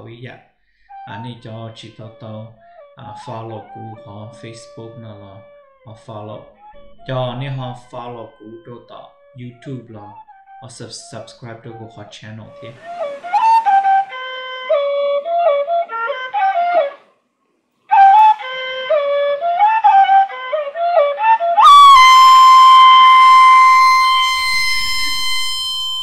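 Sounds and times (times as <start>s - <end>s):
flute-like melody: 0.8s - 17.1s, 17.9s - 26.0s.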